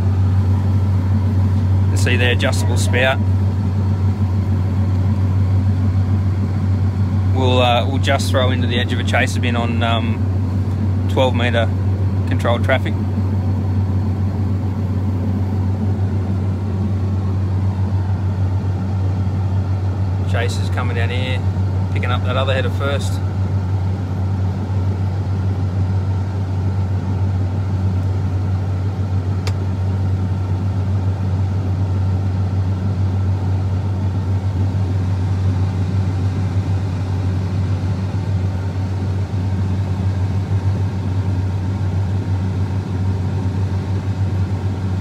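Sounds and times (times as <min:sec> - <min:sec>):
combine harvester drone: 0:00.0 - 0:45.0.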